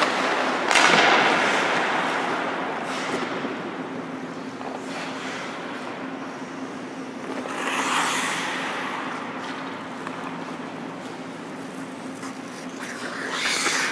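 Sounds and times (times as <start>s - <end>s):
skate blades scraping ice: 0.0s - 13.9s.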